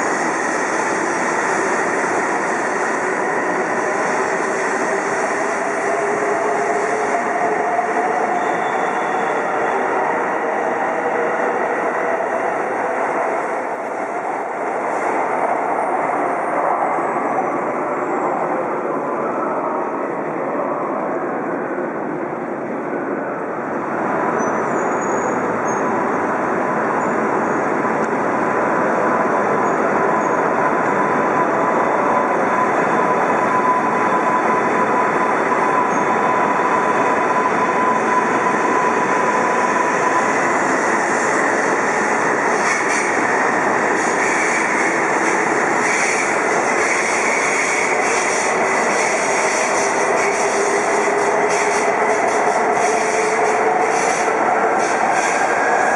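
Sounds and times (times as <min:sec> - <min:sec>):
train wheels rushing on rail: 0:00.0 - 0:55.9.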